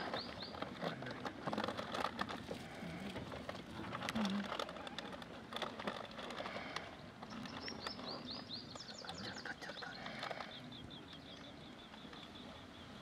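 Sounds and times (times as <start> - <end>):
soft outdoor background noise: 0.0 - 13.0.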